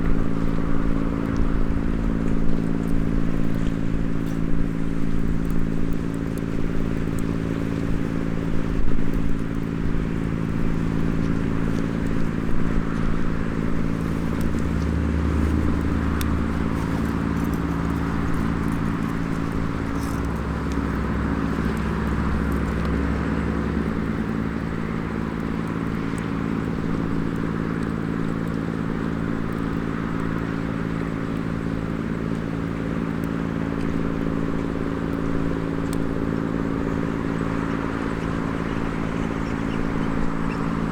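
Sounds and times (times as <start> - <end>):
deep rumble: 0.0 - 32.6, 33.2 - 40.9
low engine hum: 0.0 - 40.9
wood fire crackling and popping: 0.0 - 40.9.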